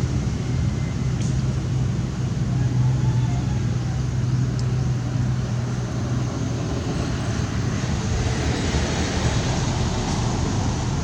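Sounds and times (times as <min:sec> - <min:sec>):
low mechanical rumble and hum: 0:00.0 - 0:11.0.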